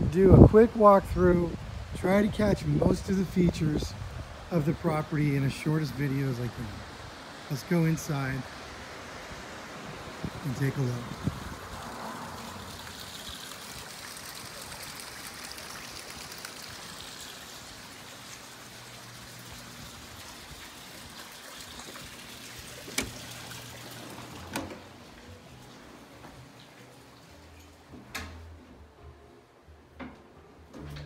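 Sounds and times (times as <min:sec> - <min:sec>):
water trickling: 0:01.8 - 0:27.9.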